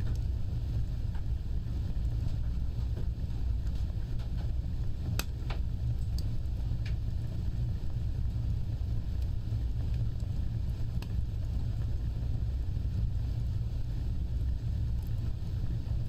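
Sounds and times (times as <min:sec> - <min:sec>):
fire crackles and pops: 0:00.0 - 0:16.0
fireplace fire roaring: 0:00.0 - 0:16.0.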